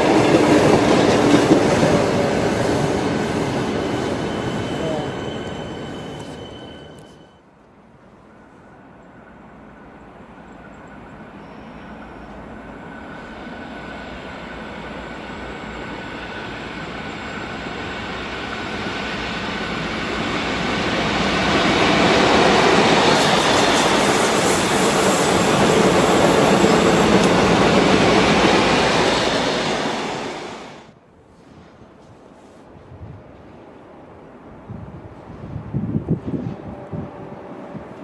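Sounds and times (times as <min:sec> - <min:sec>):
diesel train passing: 0:00.0 - 0:31.0, 0:33.3 - 0:38.0.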